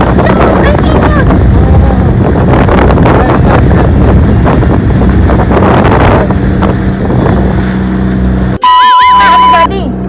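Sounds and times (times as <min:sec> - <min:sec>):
wind buffeting microphone: 0:00.0 - 0:08.6
motorboat engine running: 0:00.0 - 0:10.0.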